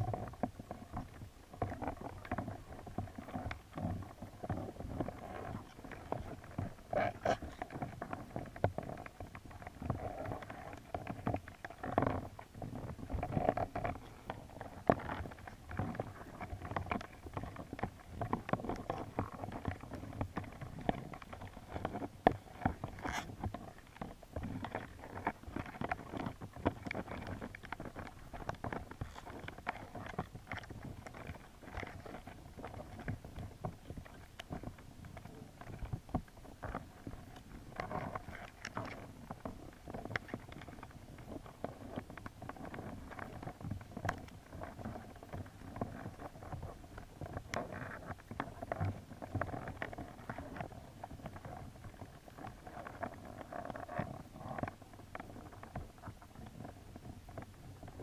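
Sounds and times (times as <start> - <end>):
muffled underwater churn: 0.0 - 58.0.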